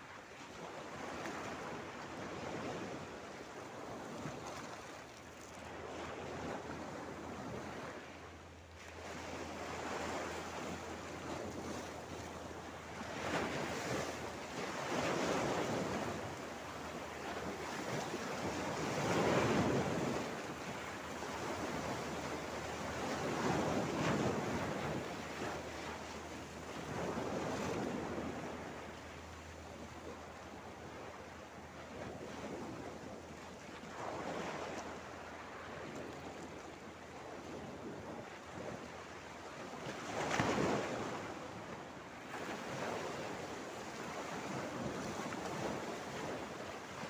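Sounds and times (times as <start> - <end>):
small waves breaking over rock: 8.8 - 47.0.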